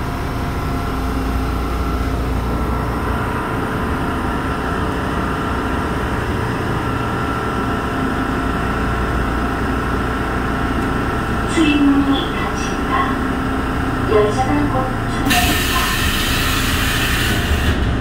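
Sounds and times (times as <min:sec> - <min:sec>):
subway car electrical hum: 0:00.0 - 0:18.0.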